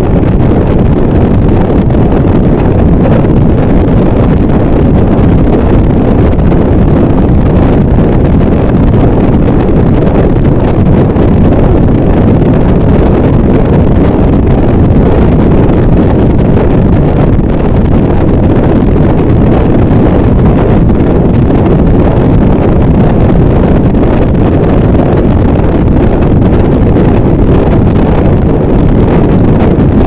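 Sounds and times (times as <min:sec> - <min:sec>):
dense distorted noise wall: 0:00.0 - 0:30.0.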